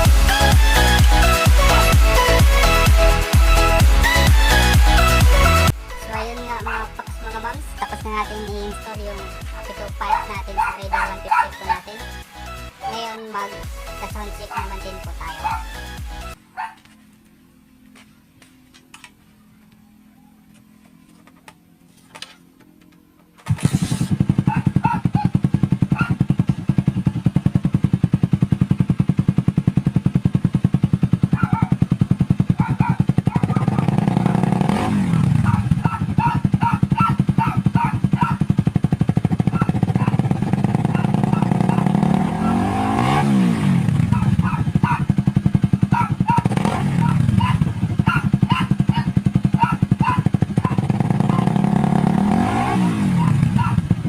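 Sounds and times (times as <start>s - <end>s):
motorcycle engine revving: 0.0s - 16.4s, 22.1s - 54.0s.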